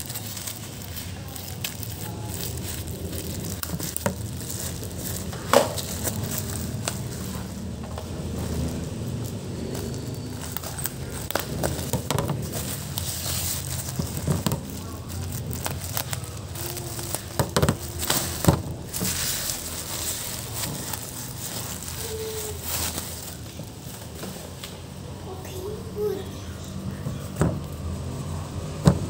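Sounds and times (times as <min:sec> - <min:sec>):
bubble-wrap mailer crinkling: 0:00.0 - 0:26.2.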